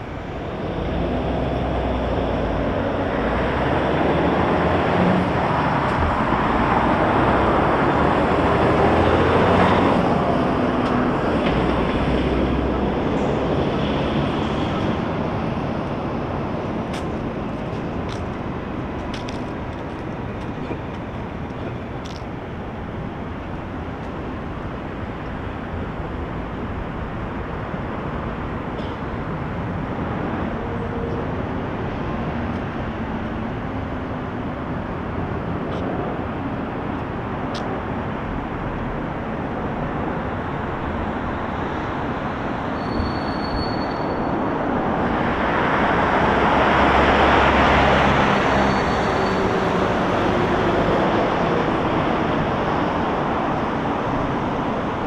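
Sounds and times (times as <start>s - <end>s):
city traffic hum: 0.0s - 55.0s.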